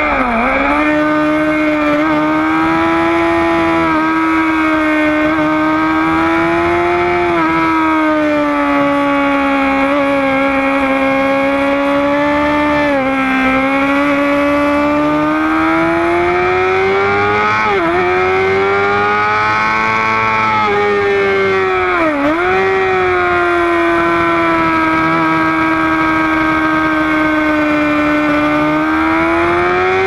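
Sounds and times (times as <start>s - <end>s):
motorcycle engine whining: 0.0s - 30.0s.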